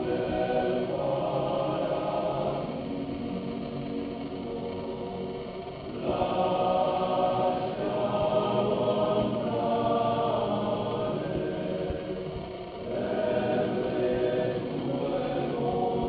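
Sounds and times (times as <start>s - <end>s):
choir singing held notes: 0.0s - 16.0s.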